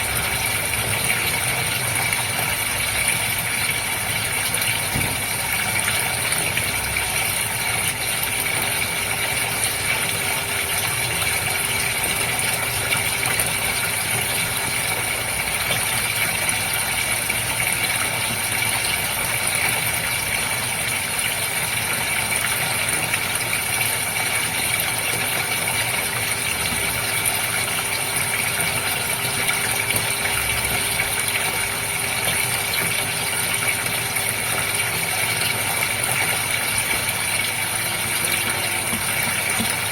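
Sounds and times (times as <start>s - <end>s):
aquarium water running: 0.0s - 39.9s
pump humming: 0.0s - 39.9s.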